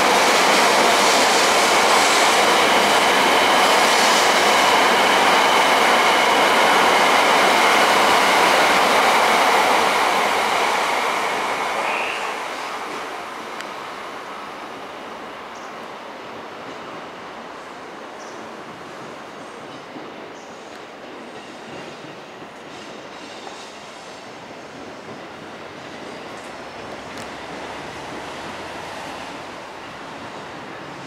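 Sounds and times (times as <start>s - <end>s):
train wheels rushing: 0.0s - 13.9s, 18.6s - 31.0s.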